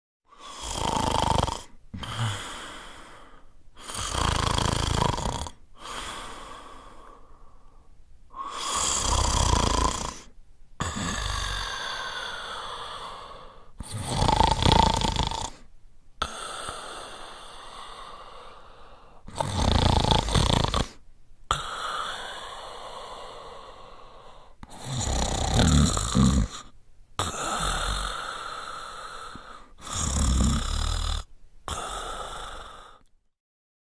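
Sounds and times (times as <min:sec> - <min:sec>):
person snoring: 0:00.3 - 0:33.1
quiet breaths: 0:00.3 - 0:33.3.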